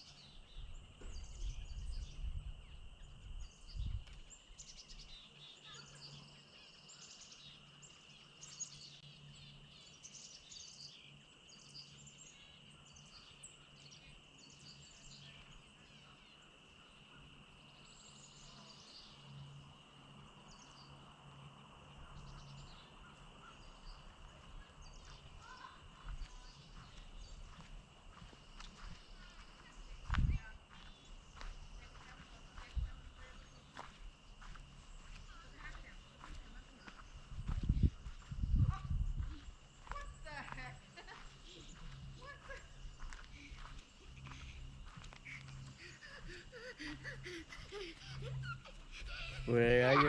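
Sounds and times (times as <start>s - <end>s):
small birds chirping and singing: 0.0s - 50.0s.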